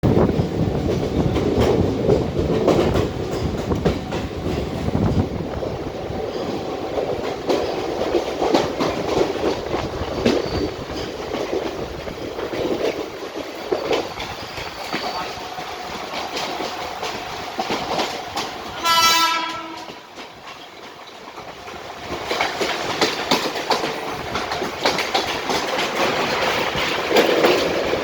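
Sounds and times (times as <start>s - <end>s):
train wheels clattering over rail joints: 0.1s - 28.0s.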